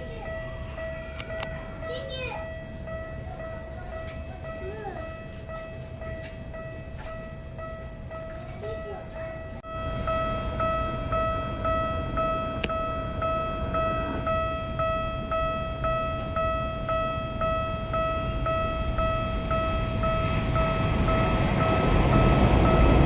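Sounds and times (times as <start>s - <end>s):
level crossing warning bell: 0.0s - 23.0s
low rumble: 0.0s - 23.0s.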